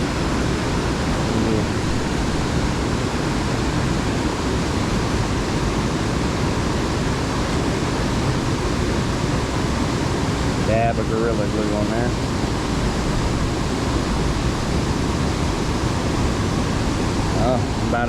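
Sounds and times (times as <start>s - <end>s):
water rushing below a dam: 0.0s - 18.0s.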